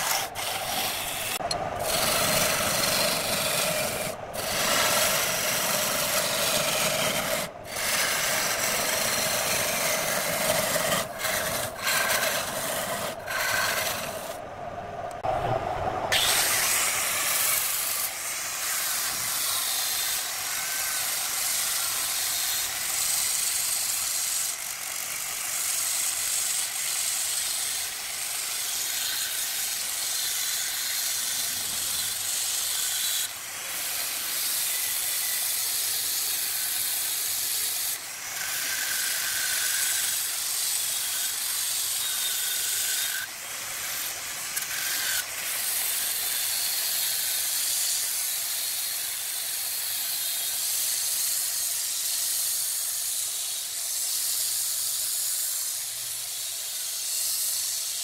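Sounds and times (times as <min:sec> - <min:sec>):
sanding disc hissing on wood: 0:00.0 - 0:14.4, 0:16.1 - 0:58.0.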